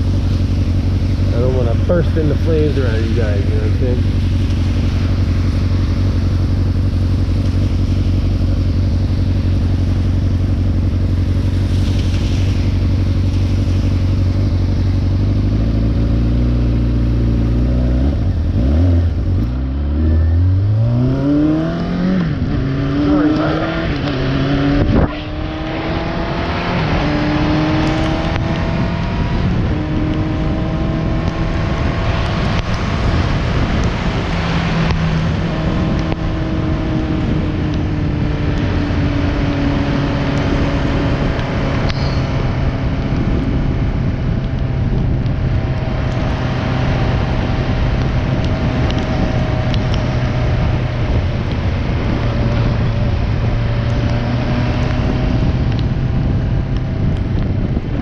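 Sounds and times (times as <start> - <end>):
motorcycle engine running: 0.0 - 23.4, 24.1 - 58.0
wind and road noise: 0.0 - 58.0.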